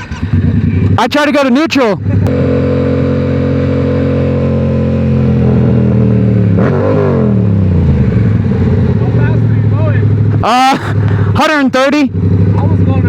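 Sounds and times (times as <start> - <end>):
motorcycle engine running: 0.0 - 13.0
second engine passing: 0.0 - 13.0.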